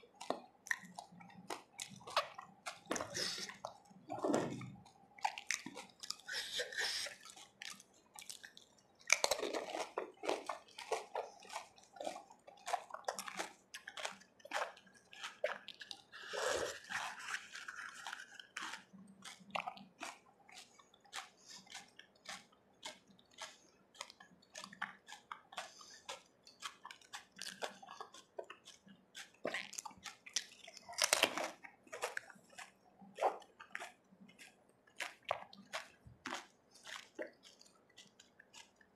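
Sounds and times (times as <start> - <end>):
crunching and chewing puris: 0.0 - 38.9.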